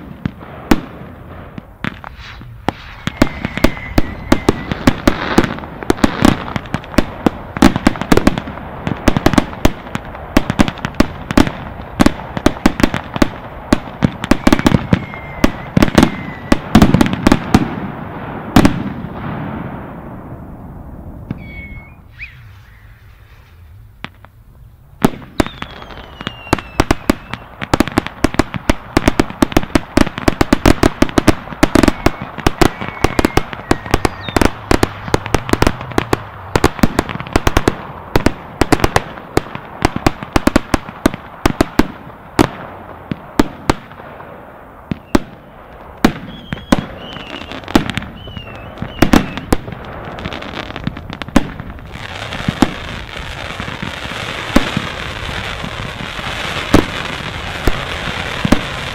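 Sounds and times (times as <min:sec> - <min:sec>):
firework fountain hissing: 0:00.0 - 0:58.9
fireworks bangs and crackling: 0:00.0 - 0:58.9
whistling fireworks: 0:00.0 - 0:58.9.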